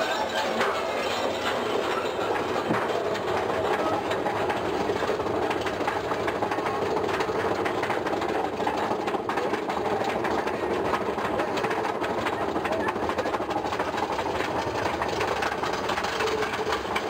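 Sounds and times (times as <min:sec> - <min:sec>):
roller coaster lift chain rattling: 0:00.0 - 0:17.0.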